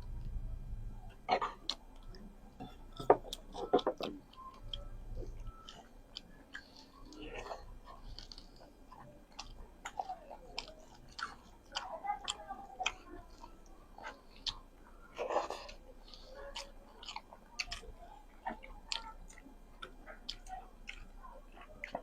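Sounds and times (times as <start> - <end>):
person chewing food: 1.1 - 22.0.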